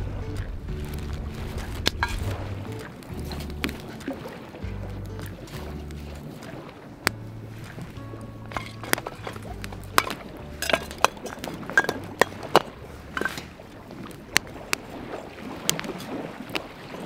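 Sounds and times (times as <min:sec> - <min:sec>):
firewood crackling and popping: 0:00.0 - 0:17.0.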